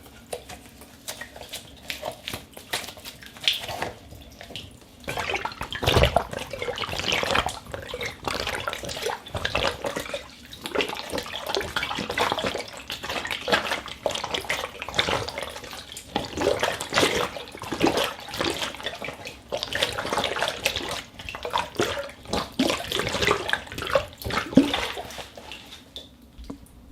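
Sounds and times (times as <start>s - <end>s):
rubber gloves squishing: 0.0s - 26.1s.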